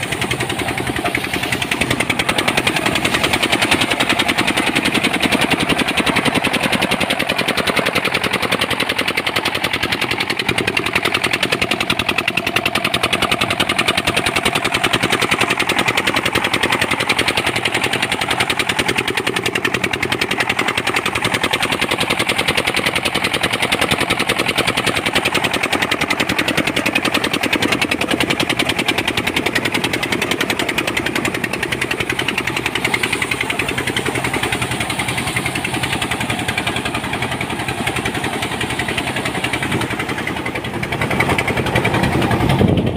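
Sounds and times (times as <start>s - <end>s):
thresher motor chugging: 0.0s - 42.9s.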